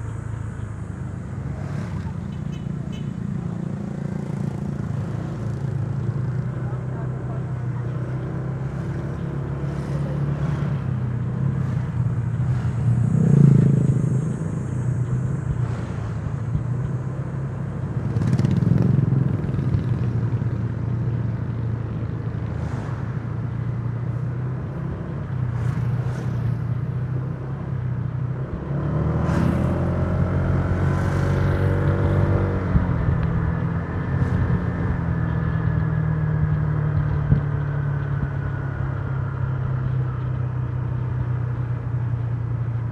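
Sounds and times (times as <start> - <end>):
road and wind noise: 0.0 - 42.9.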